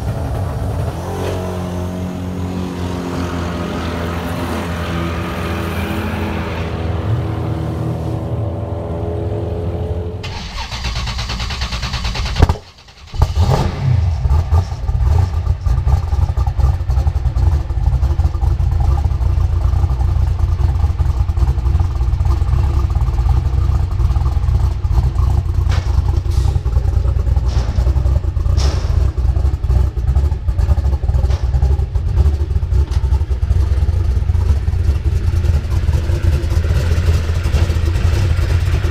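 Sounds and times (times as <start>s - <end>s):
car engine rumbling with crackling: 0.0s - 38.9s.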